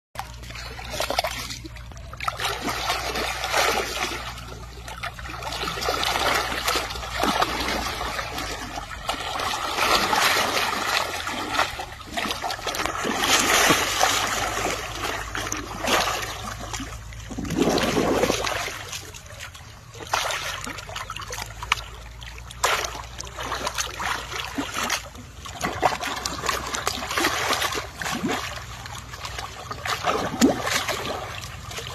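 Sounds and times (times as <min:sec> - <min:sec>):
low steady hum: 0:00.2 - 0:31.9
water splashing and sloshing: 0:00.2 - 0:31.9.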